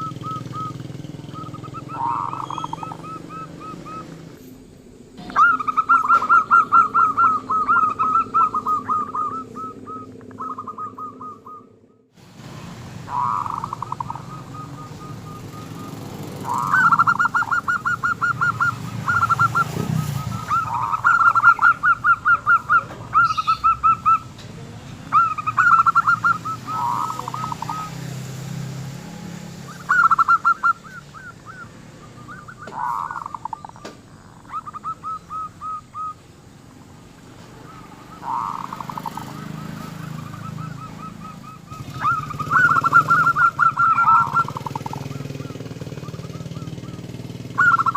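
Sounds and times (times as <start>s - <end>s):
dove cooing: 0.0s - 12.1s, 13.0s - 47.9s.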